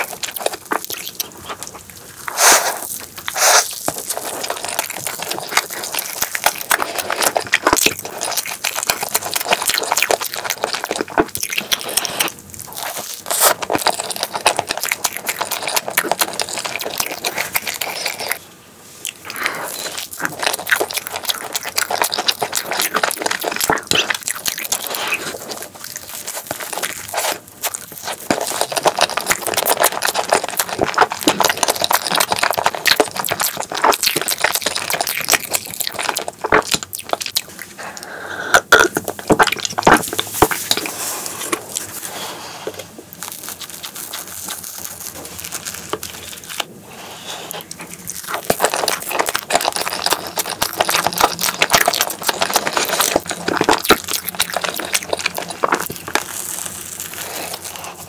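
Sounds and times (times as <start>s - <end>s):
chewing and swallowing: 0.0s - 18.4s, 19.0s - 58.0s.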